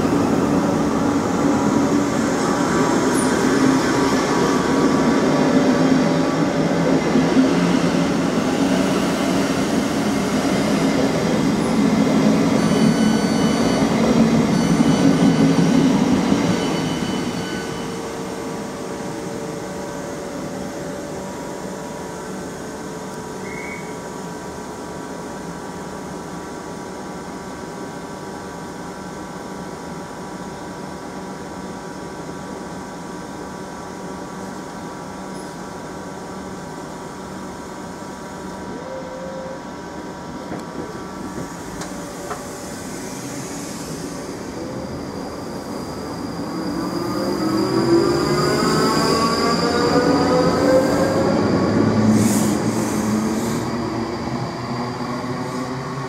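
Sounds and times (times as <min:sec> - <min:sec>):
standing train hum: 0:00.0 - 0:56.0.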